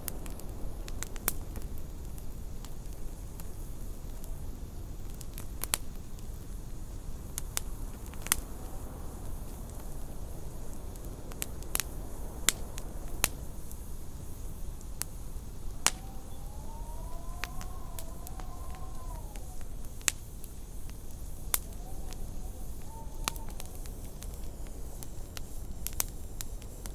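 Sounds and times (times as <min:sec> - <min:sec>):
faint howl of wind: 0:00.0 - 0:26.9
wood fire crackling and popping: 0:00.0 - 0:26.9.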